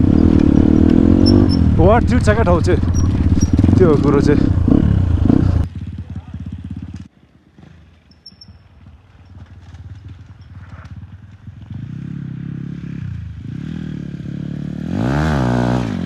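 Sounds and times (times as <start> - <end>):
dirt bike engine revving: 0.0 - 7.1, 9.6 - 16.0.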